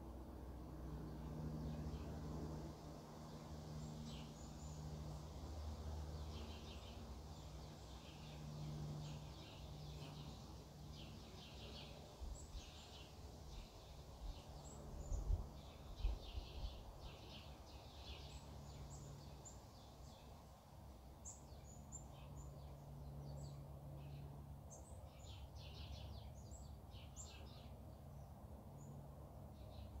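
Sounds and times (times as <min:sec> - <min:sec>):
small birds chirping: 0:01.0 - 0:30.0.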